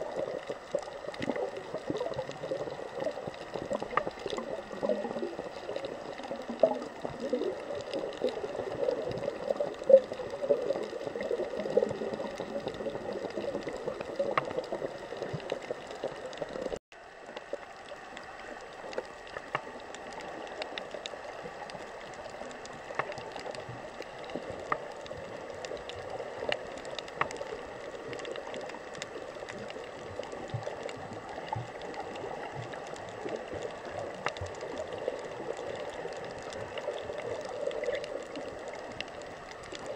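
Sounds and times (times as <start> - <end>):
faint ticks and crackles: 0.0 - 39.9
muffled underwater water noise: 0.0 - 39.9.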